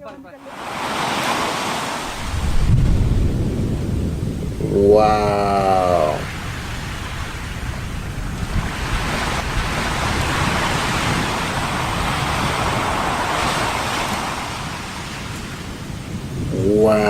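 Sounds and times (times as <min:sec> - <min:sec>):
steady rushing noise: 0:00.4 - 0:17.0.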